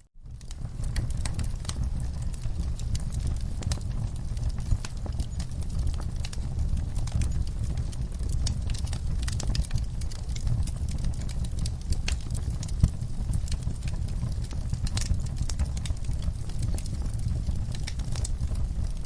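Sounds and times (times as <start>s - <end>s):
fire rumbling: 0.2s - 19.0s
logs crackling and popping: 0.2s - 19.0s.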